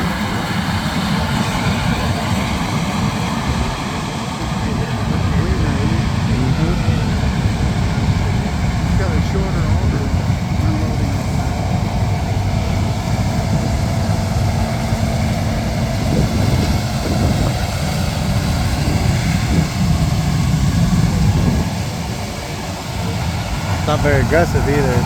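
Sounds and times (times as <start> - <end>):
diesel harvest machinery running: 0.0 - 25.0.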